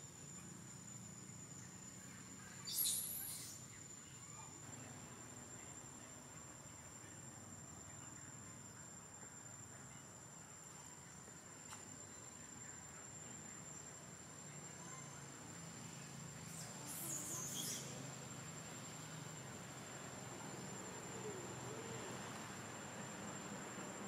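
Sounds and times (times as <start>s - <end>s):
insect buzz: 0.0s - 24.0s.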